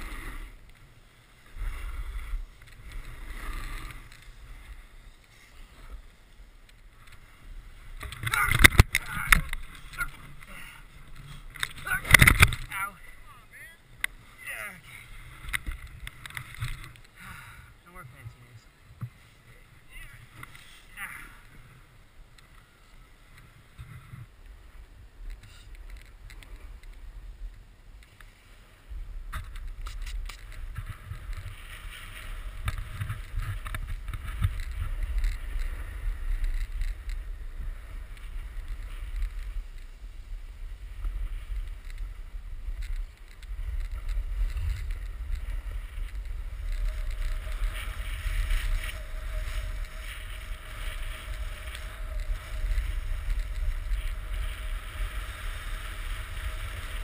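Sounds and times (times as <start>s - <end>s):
snowboard scraping over snow: 0.0s - 17.1s, 18.0s - 57.0s
wind rumbling on microphone: 0.0s - 57.0s.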